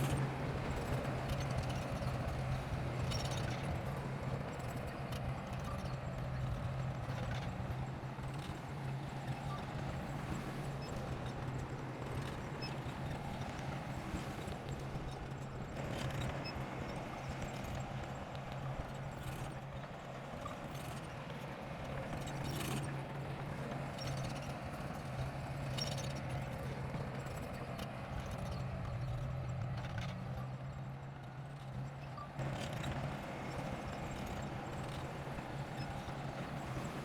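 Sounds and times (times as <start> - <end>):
bulldozer engine running: 0.0 - 37.0.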